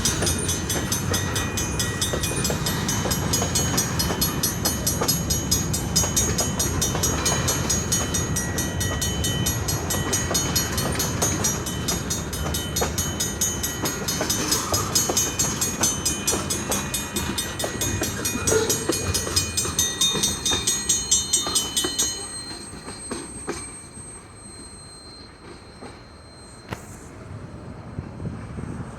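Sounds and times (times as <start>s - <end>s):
train wheels clattering on rails: 0.0s - 28.9s.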